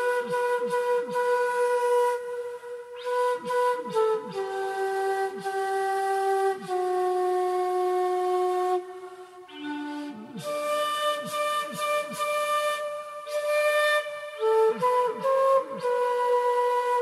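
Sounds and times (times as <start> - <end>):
solo flute playing held notes: 0.0 - 17.0.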